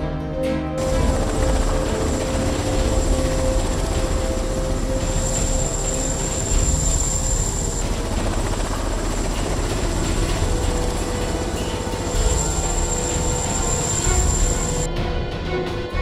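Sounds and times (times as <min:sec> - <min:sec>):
high-pitched whine: 0:00.8 - 0:14.9
helicopter rotor rumble: 0:00.8 - 0:16.0.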